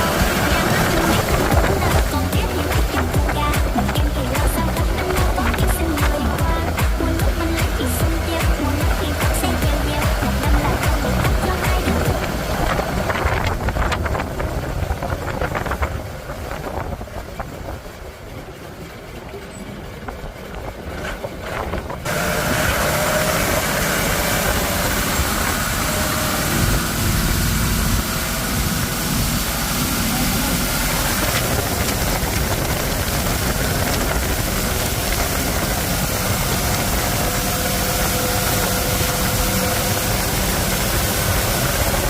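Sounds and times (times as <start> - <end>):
diesel boat engine rumbling: 0.0 - 42.0
faint engine whine: 0.0 - 42.0.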